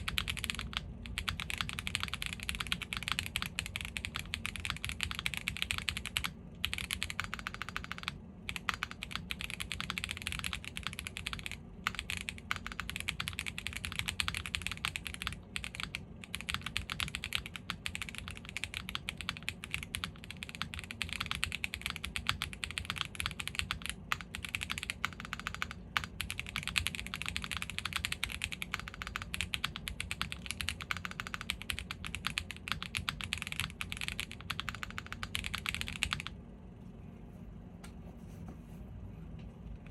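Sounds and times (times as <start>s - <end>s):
mechanical keyboard typing: 0.0s - 36.4s.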